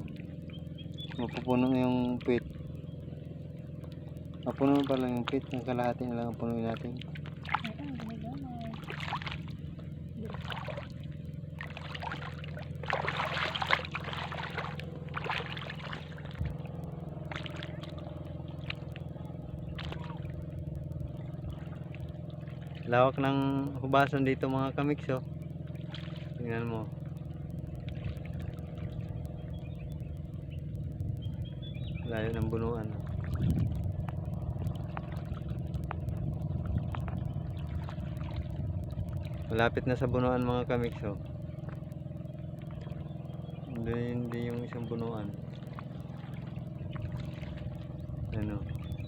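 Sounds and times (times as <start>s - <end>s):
small boat engine droning: 0.0s - 49.0s
water splashing against hull: 0.0s - 49.0s.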